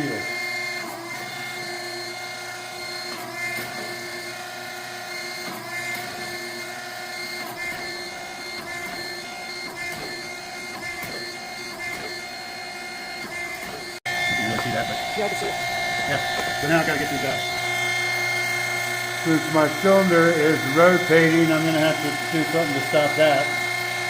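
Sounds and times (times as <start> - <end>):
hydraulic pump motor whining: 0.0 - 24.0.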